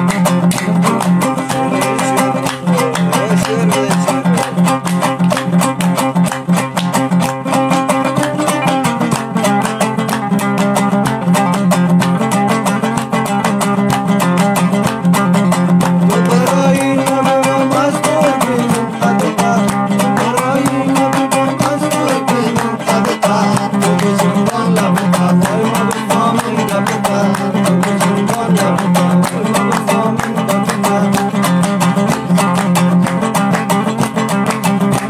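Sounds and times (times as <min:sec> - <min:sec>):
lute rapid strumming: 0:00.0 - 0:35.0.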